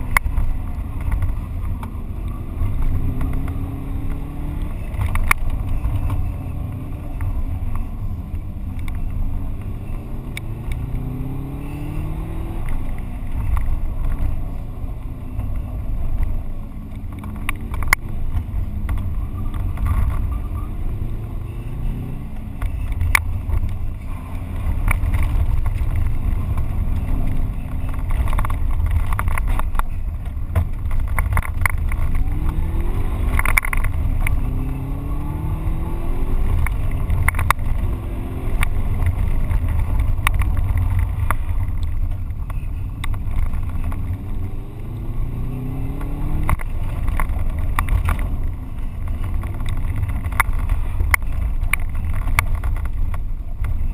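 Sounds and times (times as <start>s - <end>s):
car engine revving: 0.0s - 53.9s
road and wind rumble: 0.0s - 53.9s.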